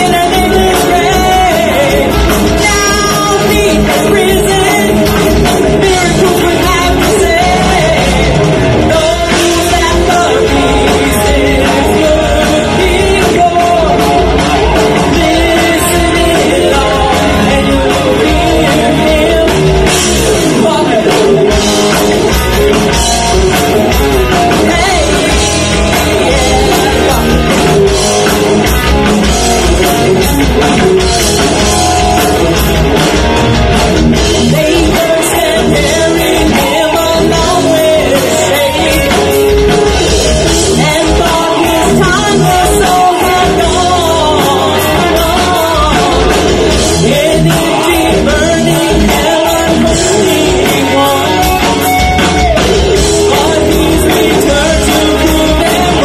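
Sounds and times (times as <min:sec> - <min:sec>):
bass guitar: 0:00.0 - 0:56.0
drum kit: 0:00.0 - 0:56.0
electric guitar: 0:00.0 - 0:56.0
person singing: 0:00.0 - 0:56.0.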